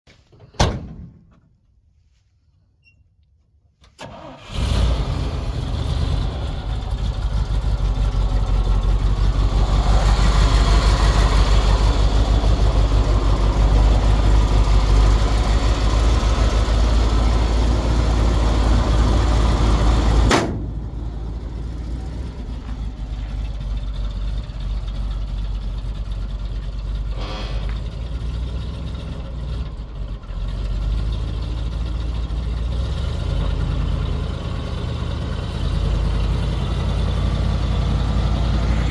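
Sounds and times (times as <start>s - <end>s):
truck engine idling: 4.0s - 38.9s.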